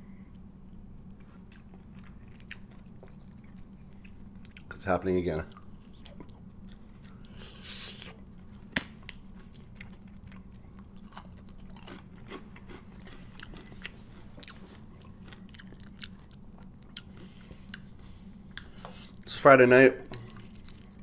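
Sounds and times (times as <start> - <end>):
steady low hum: 0.0 - 21.0
chewing crispy fried chicken: 0.3 - 4.8, 5.4 - 19.3, 20.0 - 21.0.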